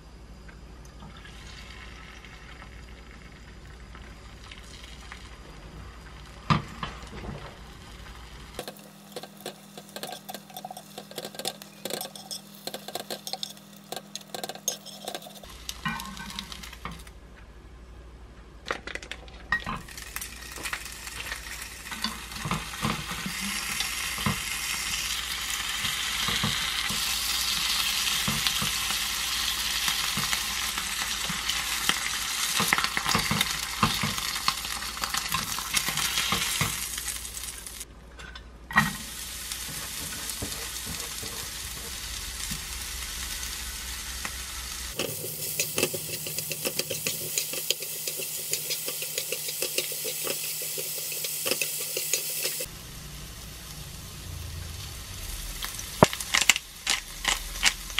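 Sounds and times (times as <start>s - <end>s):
food sizzling in a pan: 1.2s - 17.1s, 19.8s - 37.9s, 38.8s - 57.9s.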